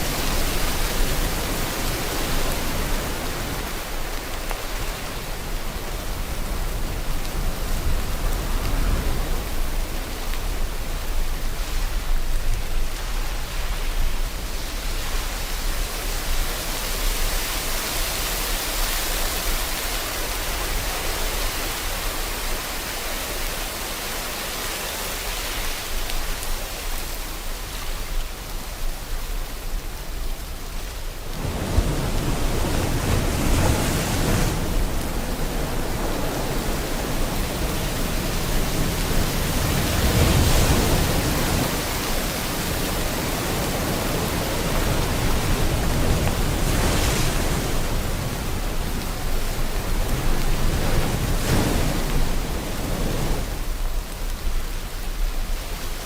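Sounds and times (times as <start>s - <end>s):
ocean waves: 0.0s - 56.0s
rain hiss: 0.0s - 56.0s.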